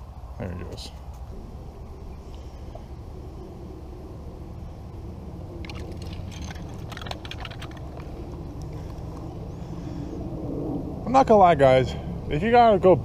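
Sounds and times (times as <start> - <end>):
low rumble: 1.2 - 13.0.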